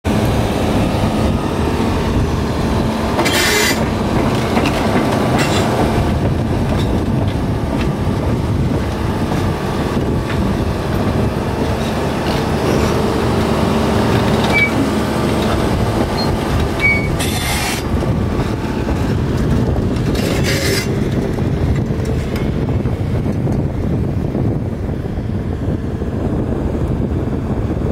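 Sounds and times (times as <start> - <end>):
excavator engine and hydraulic drone: 0.1 - 27.9.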